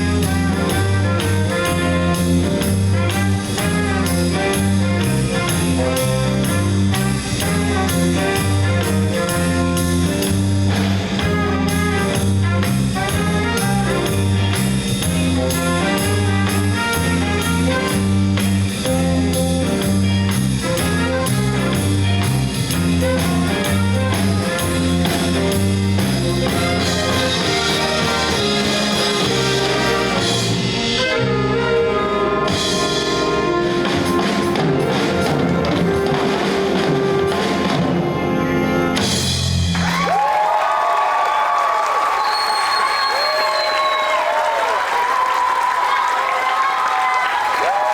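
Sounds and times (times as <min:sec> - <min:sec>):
bass line: 0:00.0 - 0:40.3
jazz big band playing: 0:00.0 - 0:40.5.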